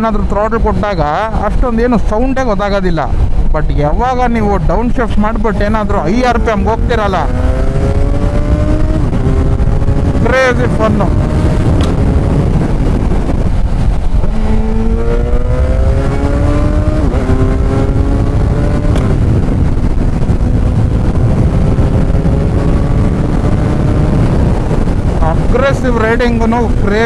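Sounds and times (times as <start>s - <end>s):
wind rush on microphone: 0.0s - 27.0s
motorcycle engine accelerating: 5.2s - 27.0s.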